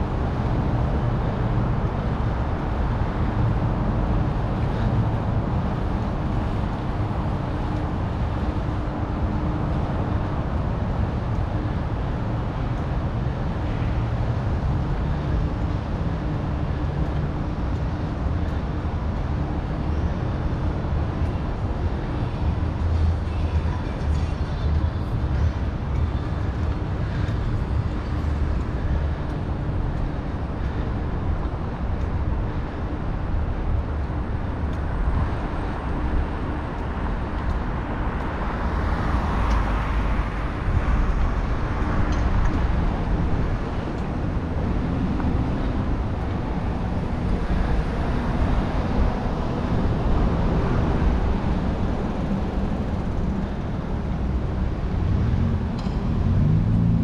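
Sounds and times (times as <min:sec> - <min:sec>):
city traffic noise: 0:00.0 - 0:57.0
wind rumbling on microphone: 0:00.0 - 0:57.0.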